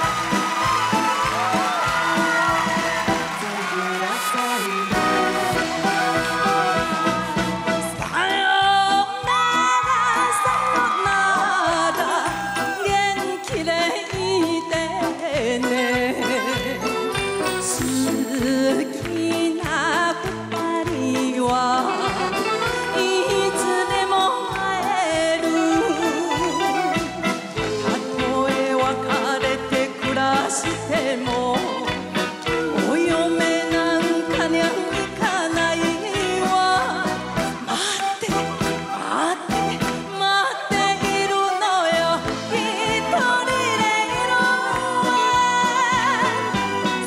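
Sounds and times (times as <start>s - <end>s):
backing band with steady beat: 0.0s - 47.0s
woman singing pop ballad: 1.2s - 7.1s, 7.7s - 47.0s.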